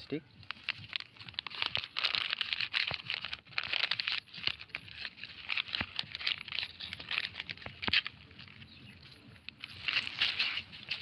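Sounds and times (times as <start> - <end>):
plastic litter crinkling: 0.4 - 11.0.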